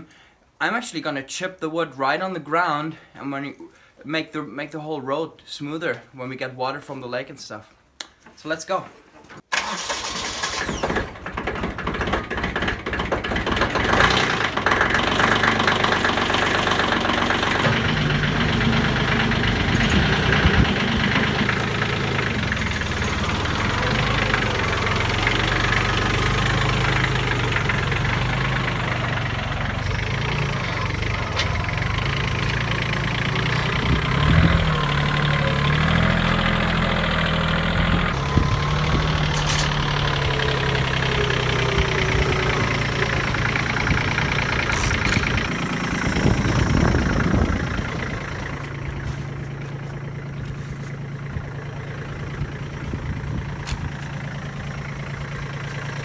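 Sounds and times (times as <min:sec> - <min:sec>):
tractor diesel engine running: 0:09.5 - 0:56.0.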